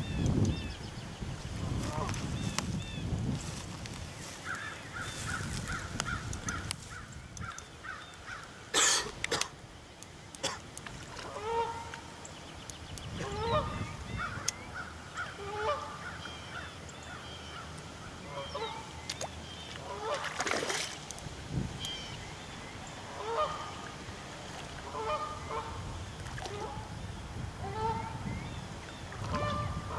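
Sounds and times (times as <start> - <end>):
birds calling: 0.0 - 21.1, 21.8 - 24.0, 24.8 - 29.9.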